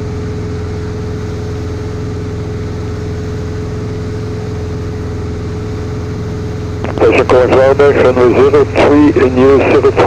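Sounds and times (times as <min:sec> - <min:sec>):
light aircraft engine droning: 0:00.0 - 0:10.0
steady humming tone: 0:00.0 - 0:10.0.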